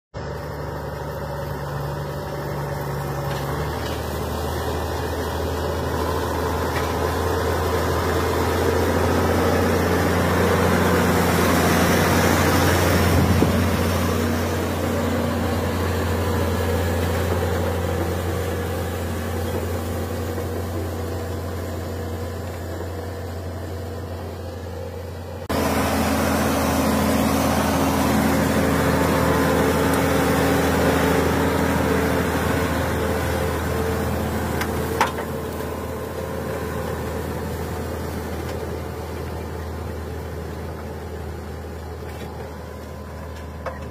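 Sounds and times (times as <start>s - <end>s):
tractor diesel engine running: 0.2s - 43.9s.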